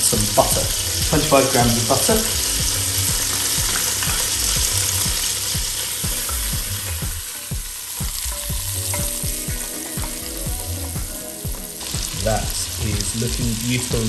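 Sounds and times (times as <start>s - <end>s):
food sizzling in a pot: 0.0s - 14.0s
wooden spoon stirring: 0.0s - 14.0s.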